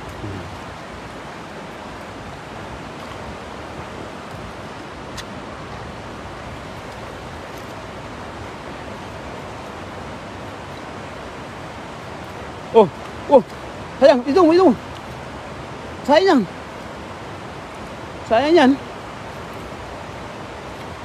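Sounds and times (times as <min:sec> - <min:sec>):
shallow river flowing: 0:00.0 - 0:21.0.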